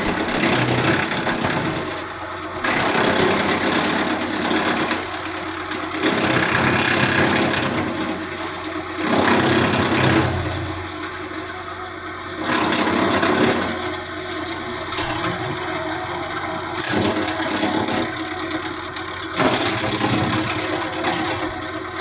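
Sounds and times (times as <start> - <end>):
wood chipper engine running: 0.0 - 22.0
wood grinding in chipper: 0.0 - 22.0.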